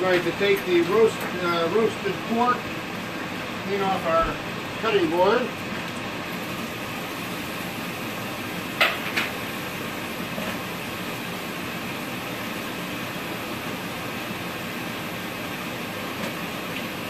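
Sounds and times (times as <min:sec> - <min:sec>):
kitchen exhaust fan whooshing hum: 0:00.0 - 0:17.0.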